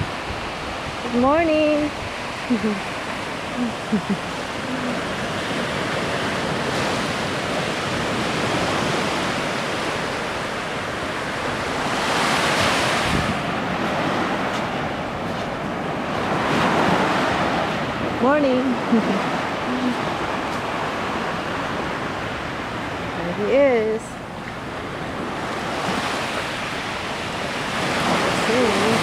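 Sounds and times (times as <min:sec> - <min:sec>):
ocean surf washing ashore: 0:00.0 - 0:29.0.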